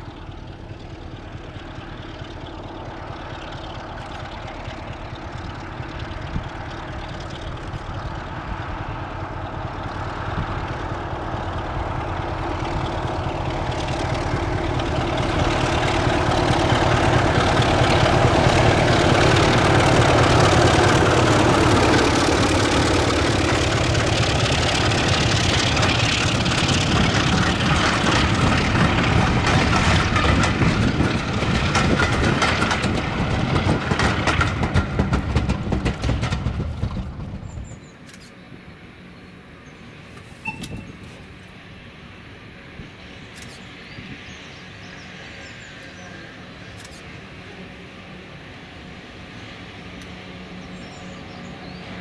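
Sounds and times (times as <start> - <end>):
diesel locomotive engine: 0.0 - 52.0
train coaches running on rails: 0.0 - 52.0.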